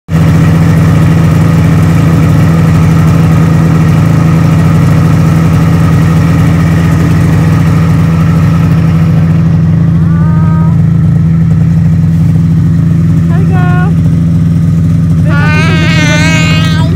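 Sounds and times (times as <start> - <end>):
snowmobile engine idling: 0.1 - 16.9.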